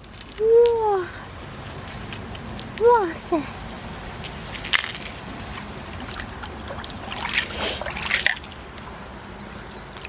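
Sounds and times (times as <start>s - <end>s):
steady low rumble: 0.0s - 10.0s
water splashing and sloshing: 1.0s - 10.0s.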